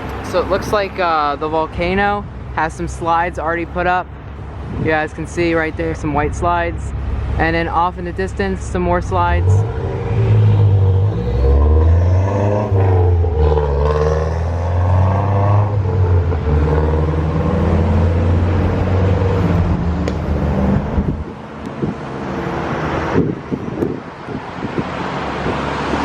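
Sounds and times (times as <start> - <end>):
road traffic passing: 0.0 - 26.0
car engine accelerating: 3.4 - 26.0.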